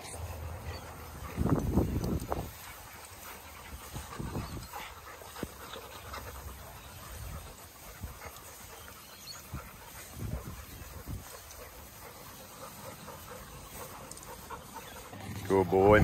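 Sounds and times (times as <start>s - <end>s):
dogs panting: 0.0s - 16.0s.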